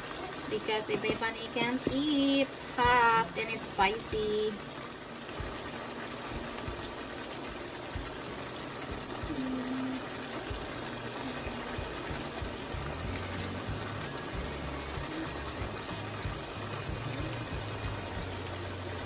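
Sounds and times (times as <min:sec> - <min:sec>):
chicken and sauce simmering: 0:00.0 - 0:19.0.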